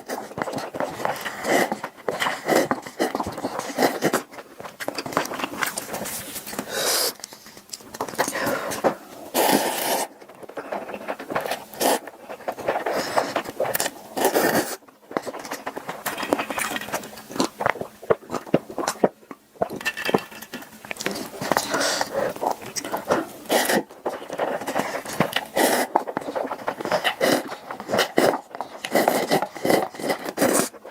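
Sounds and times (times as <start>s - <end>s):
chewing and slurping: 0.0s - 30.9s.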